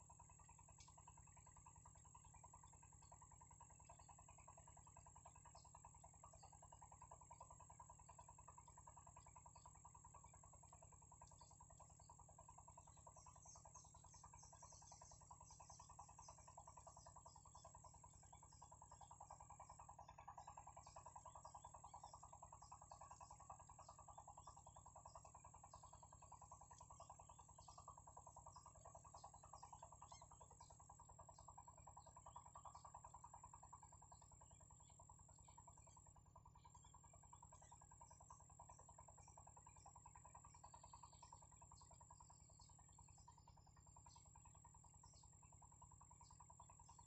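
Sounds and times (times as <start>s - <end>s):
constant high whine: 0.0s - 47.0s
insects and frogs calling: 0.0s - 47.0s.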